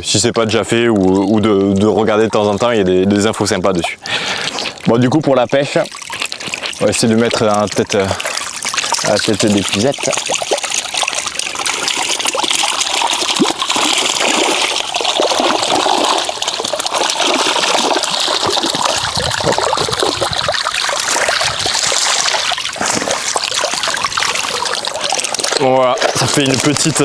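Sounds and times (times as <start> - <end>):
water pouring through net: 0.0 - 27.0
fish thrashing: 0.7 - 27.0.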